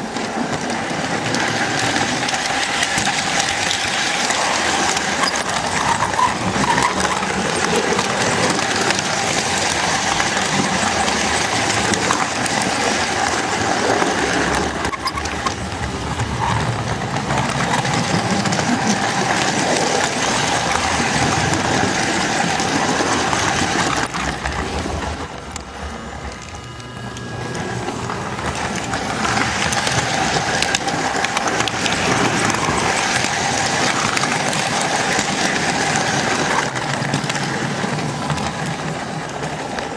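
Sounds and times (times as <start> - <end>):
wheels rattling on rails: 0.0 - 39.9.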